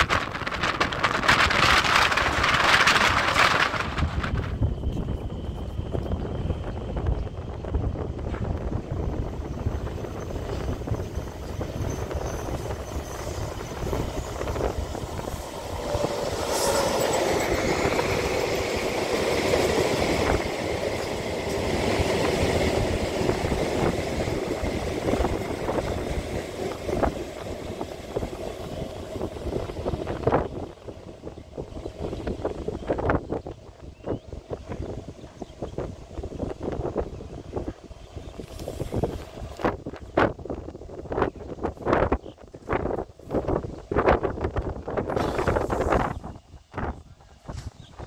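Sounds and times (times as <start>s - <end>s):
rail and wheel rumble: 0.0s - 48.0s.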